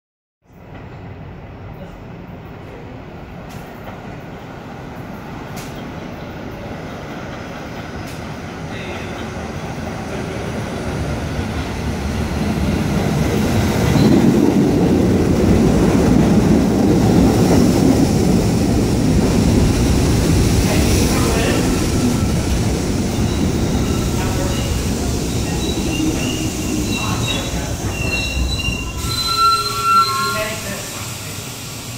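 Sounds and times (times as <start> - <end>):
subway train rumbling past: 0.5 - 31.9.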